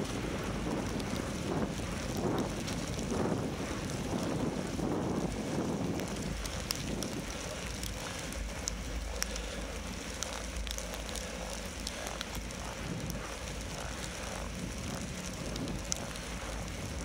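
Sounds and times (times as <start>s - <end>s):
bicycle tyres on snowy road: 0.0s - 17.0s
light ticks and crackles: 0.0s - 17.0s
wind buffeting microphone: 0.0s - 17.0s.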